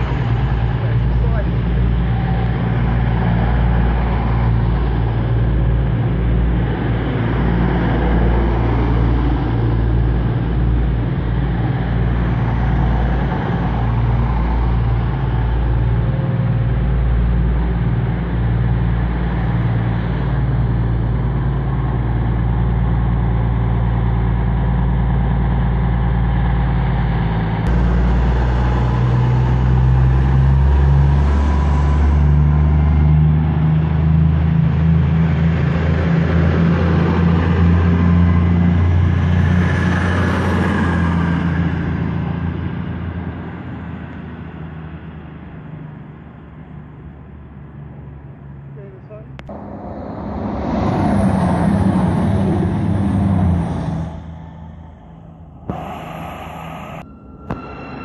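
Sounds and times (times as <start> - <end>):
train diesel engines droning: 0.0 - 58.0.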